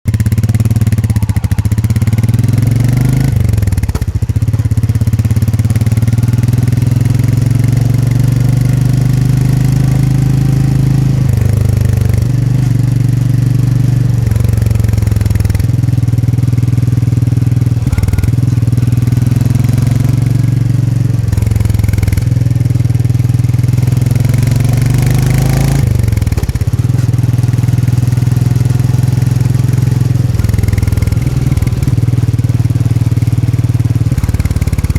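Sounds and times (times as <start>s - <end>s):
motorcycle engine and exhaust: 0.1s - 34.9s.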